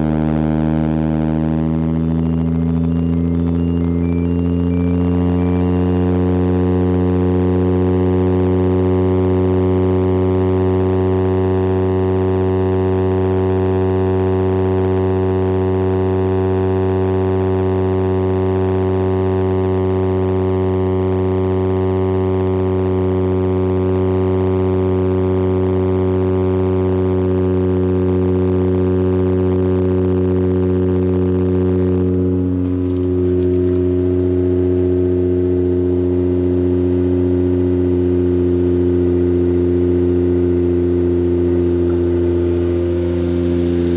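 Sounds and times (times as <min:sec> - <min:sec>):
car exhaust droning: 0:00.0 - 0:43.9.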